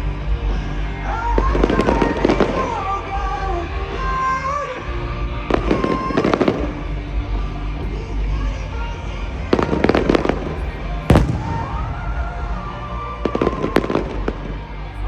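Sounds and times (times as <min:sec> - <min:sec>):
music with bass and melody: 0:00.0 - 0:15.0
fireworks bangs and crackles: 0:01.4 - 0:08.2, 0:08.8 - 0:15.0.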